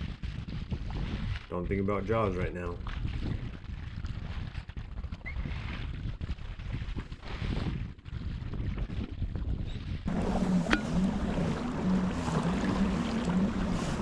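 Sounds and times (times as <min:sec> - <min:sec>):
water sloshing against hull: 0:00.0 - 0:14.0
wind buffeting microphone: 0:00.0 - 0:14.0.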